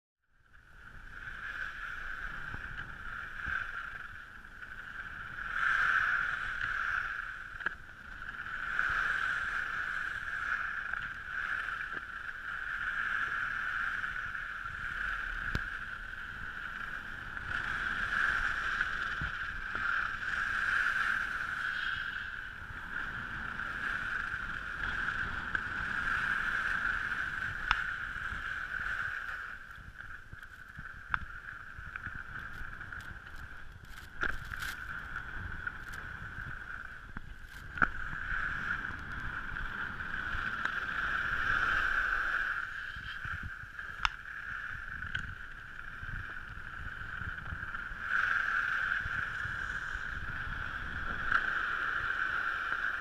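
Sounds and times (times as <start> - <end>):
skis scraping over snow: 0.8 - 44.0, 44.7 - 53.0.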